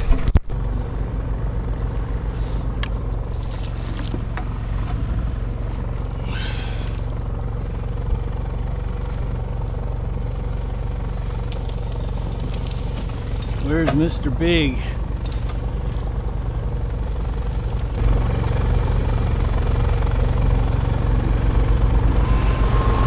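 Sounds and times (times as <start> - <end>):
boat engine drone: 0.0 - 23.0.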